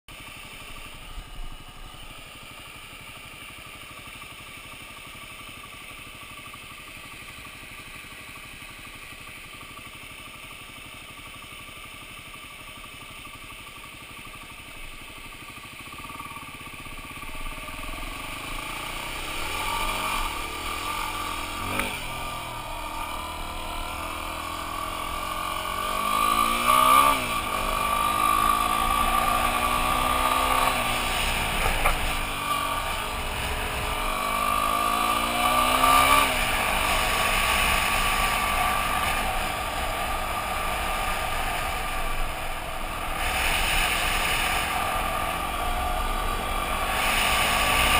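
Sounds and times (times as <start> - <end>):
dirt bike engine: 0.1 - 47.9.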